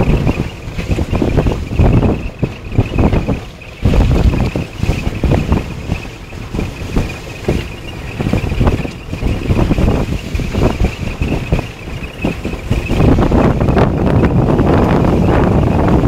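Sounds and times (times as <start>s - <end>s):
golf cart driving: 0.0s - 16.0s
wind buffeting microphone: 0.0s - 16.0s.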